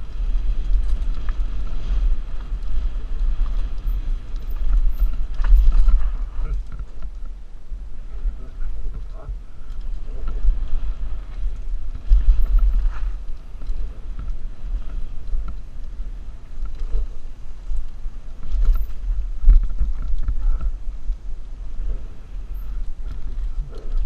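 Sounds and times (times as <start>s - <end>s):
bike rattling over rough trail: 0.0s - 24.0s
wind buffeting microphone: 0.0s - 24.0s.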